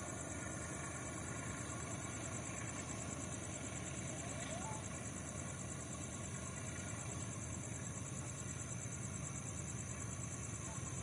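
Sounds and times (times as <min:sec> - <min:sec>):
low steady rumble: 0:00.0 - 0:11.0
night insects trilling: 0:00.0 - 0:11.0.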